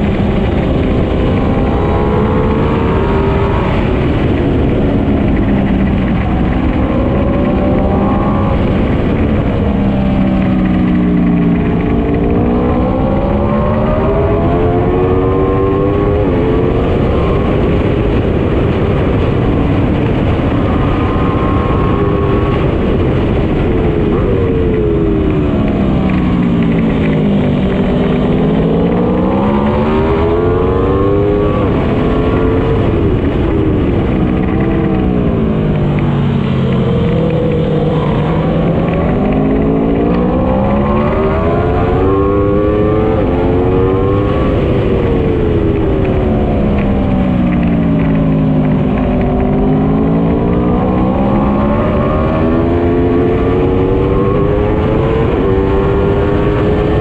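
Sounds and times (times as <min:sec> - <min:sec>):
motorcycle engine running hard: 0:00.0 - 0:57.0
wind rush on microphone: 0:00.0 - 0:57.0.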